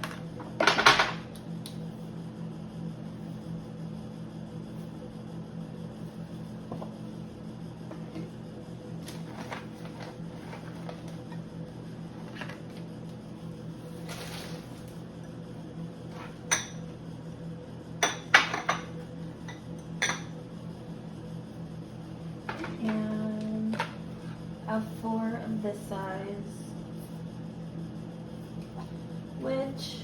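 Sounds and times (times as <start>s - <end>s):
low appliance hum: 0.0s - 30.0s.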